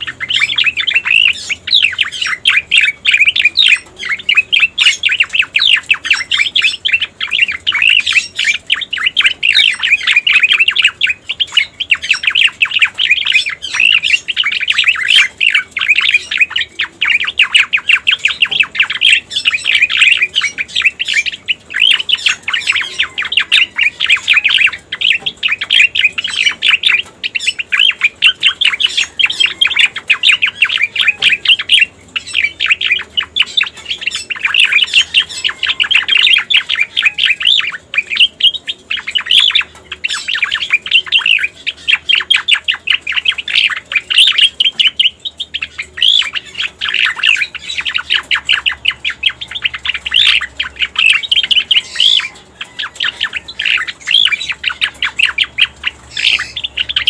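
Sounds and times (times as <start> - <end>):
bird chattering high chirps: 0.0 - 57.0.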